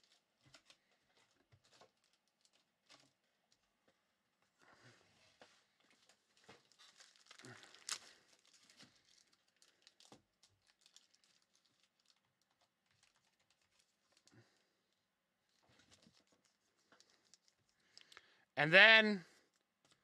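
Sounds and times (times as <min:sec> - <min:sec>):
small clicks and rustling: 0:00.0 - 0:18.3, 0:19.4 - 0:20.0.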